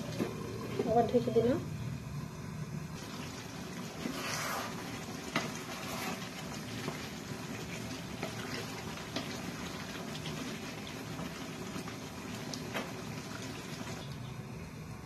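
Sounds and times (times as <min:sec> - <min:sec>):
curry bubbling and sizzling: 0:00.0 - 0:14.6.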